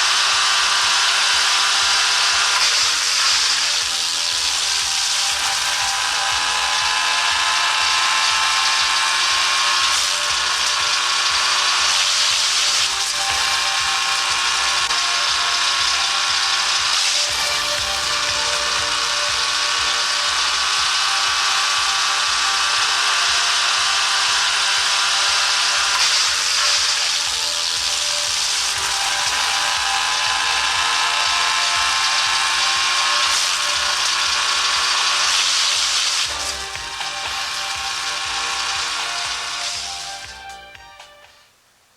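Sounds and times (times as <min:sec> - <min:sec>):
woodchipper running: 0:00.0 - 0:40.5.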